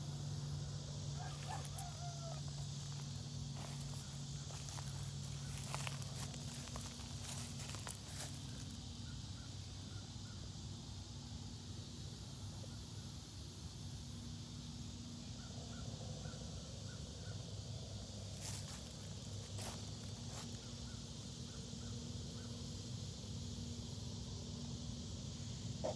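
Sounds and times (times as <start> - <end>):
insects hissing: 0.0 - 25.9.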